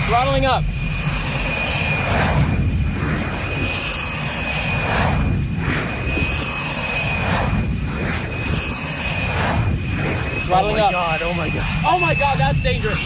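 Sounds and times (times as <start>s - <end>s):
high jet engine whine: 0.0s - 13.0s
jet engine roaring: 0.0s - 13.0s.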